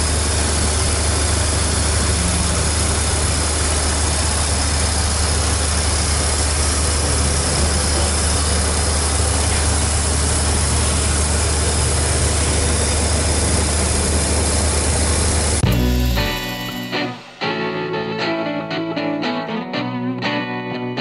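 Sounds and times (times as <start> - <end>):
low engine rumble: 0.0 - 17.6.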